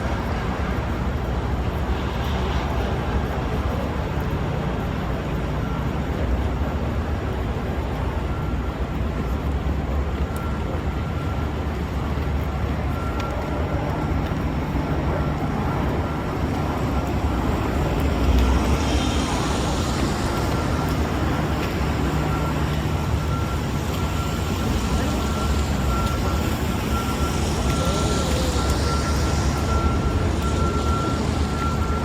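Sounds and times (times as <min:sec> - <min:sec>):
low rumble of traffic: 0:00.0 - 0:32.0.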